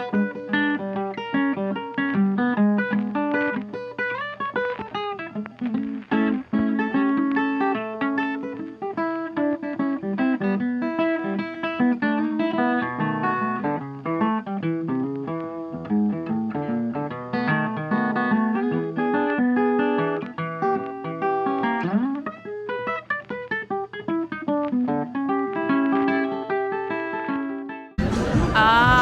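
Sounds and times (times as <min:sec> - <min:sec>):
acoustic guitar plucking: 0:00.0 - 0:29.0.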